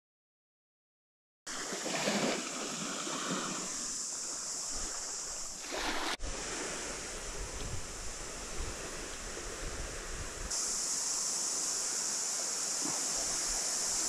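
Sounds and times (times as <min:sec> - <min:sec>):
small waves washing on beach: 0:01.5 - 0:14.0
wind: 0:01.5 - 0:14.0.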